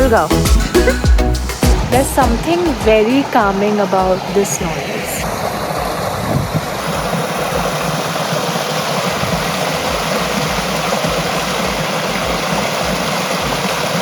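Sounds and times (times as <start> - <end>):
river water flowing over rocks: 0.6 - 14.0.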